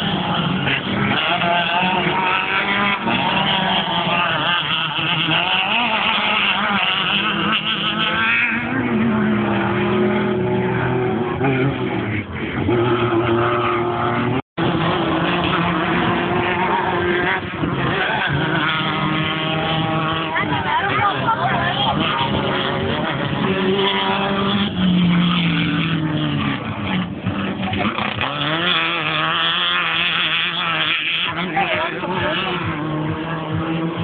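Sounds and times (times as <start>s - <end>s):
race buggy engines revving: 0.0s - 34.0s.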